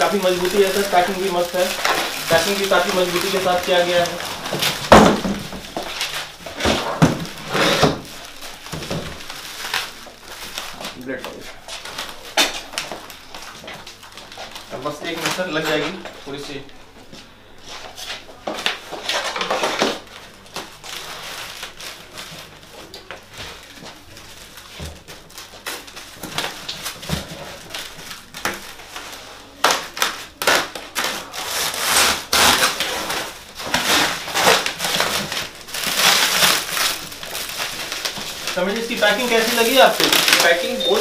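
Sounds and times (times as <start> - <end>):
cardboard and plastic rustling: 0.0 - 41.0.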